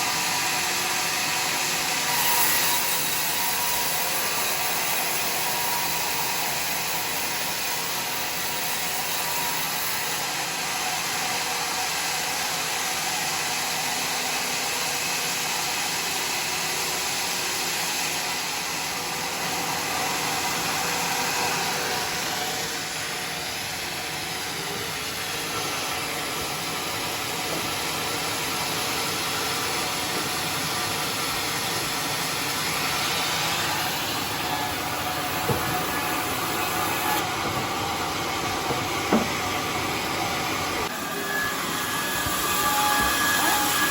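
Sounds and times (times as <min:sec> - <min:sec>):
sawmill running: 0:00.0 - 0:43.9.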